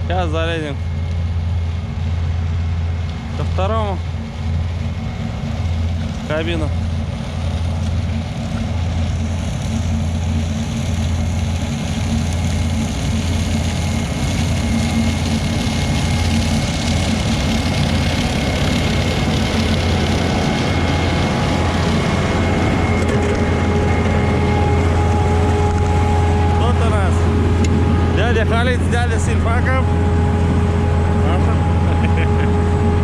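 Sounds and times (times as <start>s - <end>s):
diesel engine humming: 0.0s - 33.0s
thin steady whine: 0.0s - 33.0s.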